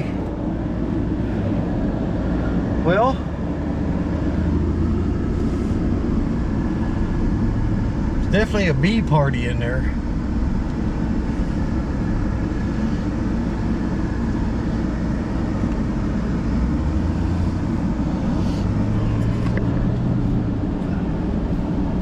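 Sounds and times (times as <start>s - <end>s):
engine and road noise rumble: 0.0s - 22.0s.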